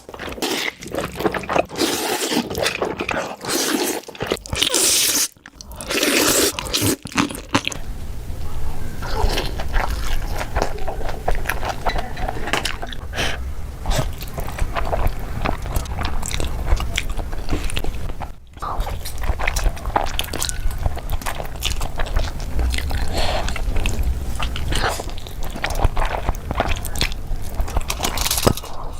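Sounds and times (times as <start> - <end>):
person chewing crunchy food: 0.0 - 7.8, 9.0 - 28.9
low steady hum: 5.5 - 28.9.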